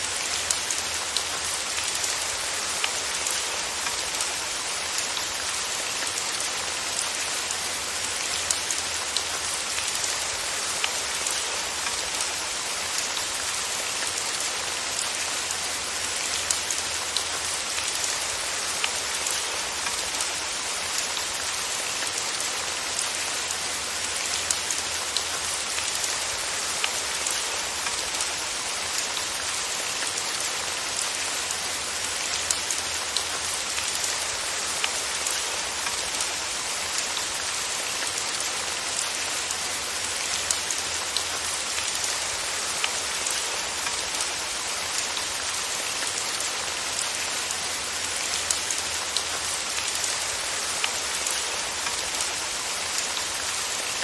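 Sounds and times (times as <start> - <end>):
rain on a hard surface: 0.0 - 54.0.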